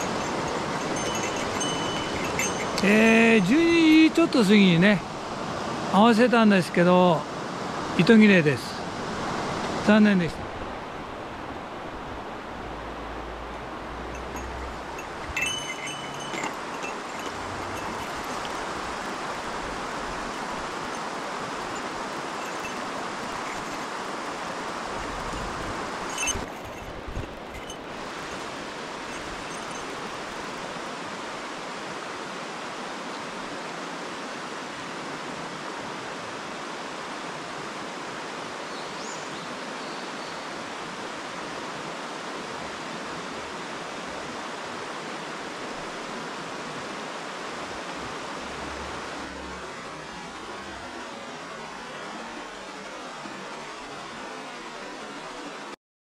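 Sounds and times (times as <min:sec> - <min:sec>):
mountain stream rushing: 0:00.0 - 0:55.8.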